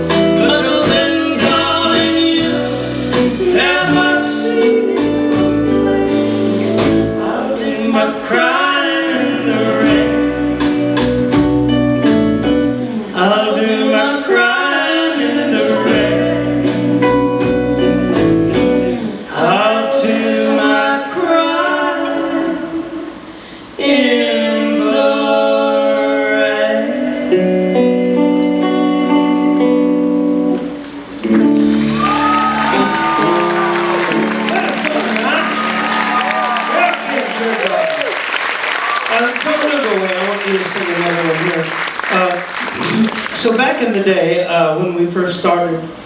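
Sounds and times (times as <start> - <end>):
live band with singing: 0.0 - 46.0.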